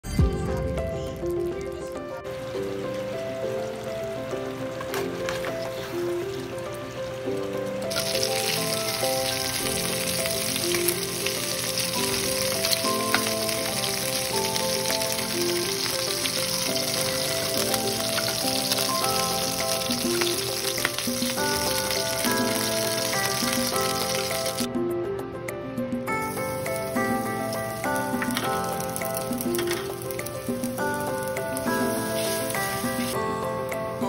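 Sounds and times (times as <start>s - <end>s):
melody of held notes: 0.1s - 34.0s
meat sizzling in a frying pan: 2.2s - 24.7s, 26.2s - 34.0s.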